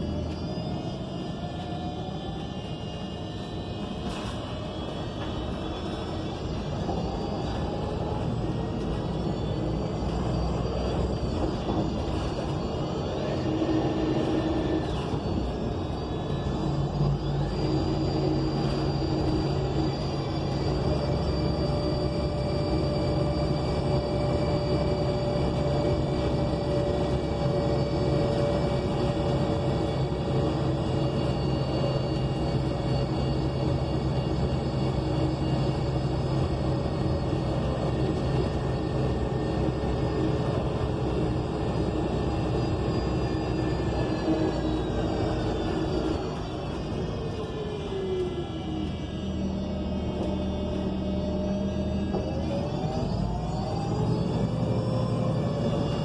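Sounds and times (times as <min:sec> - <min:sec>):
bus engine low hum: 0:00.0 - 0:56.0
high transmission whine: 0:00.0 - 0:56.0.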